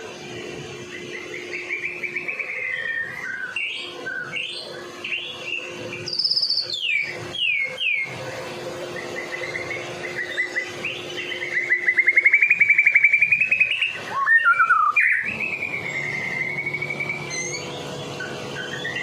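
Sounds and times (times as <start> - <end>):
songbird trilling and whistling: 0.9 - 8.2, 8.9 - 19.0.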